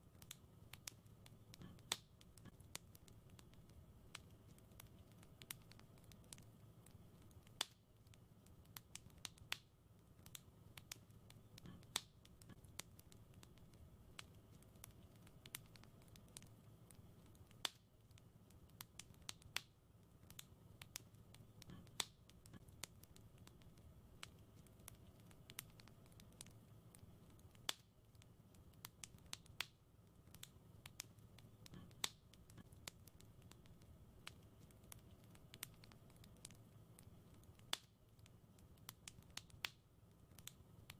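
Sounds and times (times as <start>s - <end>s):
faint low rumble: 0.0s - 40.9s
wood fire crackling: 0.0s - 40.9s.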